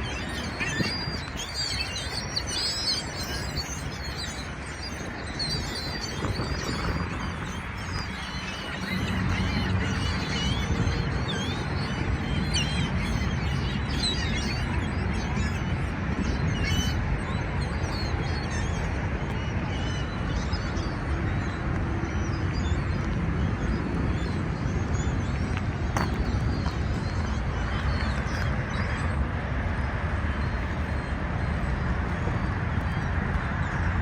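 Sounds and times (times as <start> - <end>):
seagulls squawking: 0.0 - 21.7, 24.0 - 34.0.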